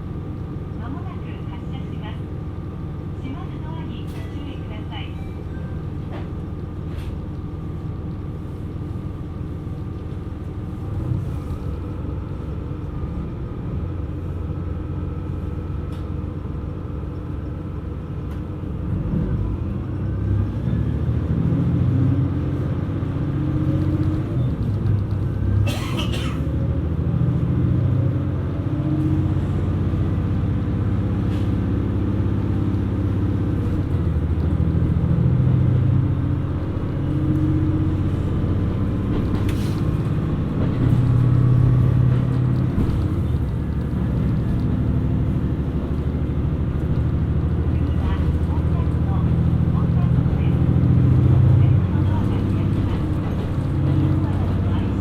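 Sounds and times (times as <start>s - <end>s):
diesel railcar engine running: 0.0s - 55.0s.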